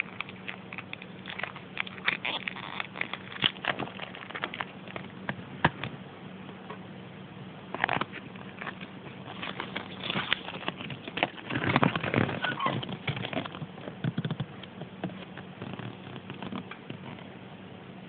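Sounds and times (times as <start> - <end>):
paper crinkling and rustling: 0.0 - 5.2, 7.8 - 17.2.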